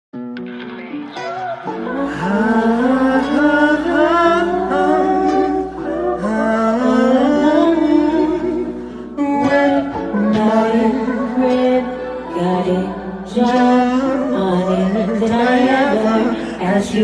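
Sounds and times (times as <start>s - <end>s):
person humming wordless melody: 1.7s - 17.0s.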